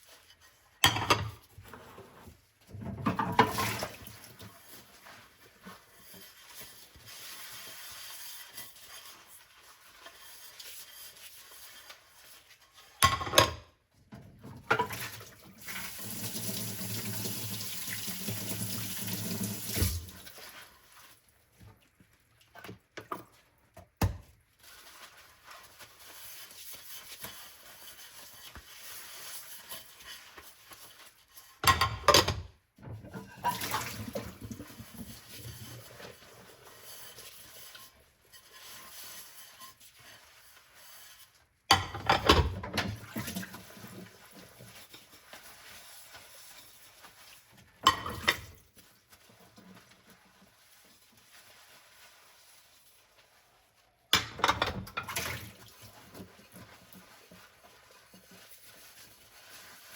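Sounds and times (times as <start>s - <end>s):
water sloshing and scrubbing: 0.0s - 59.9s.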